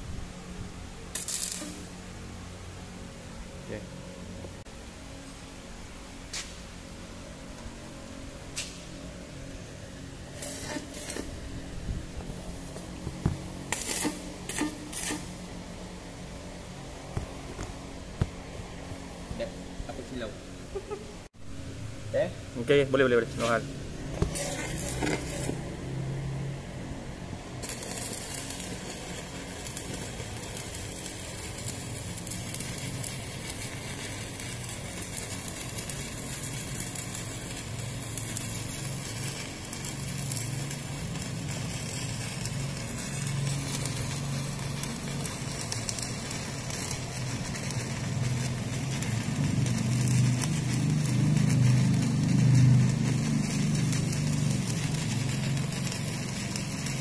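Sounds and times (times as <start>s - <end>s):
welding arc crackling: 0.0s - 3.8s, 5.7s - 21.2s, 21.8s - 57.0s.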